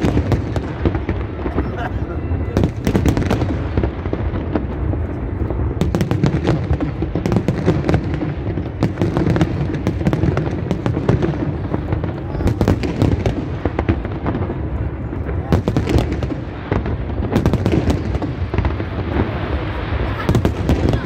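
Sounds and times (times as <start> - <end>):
fireworks booming rumble: 0.0 - 21.0
fireworks sharp cracks: 0.0 - 21.0.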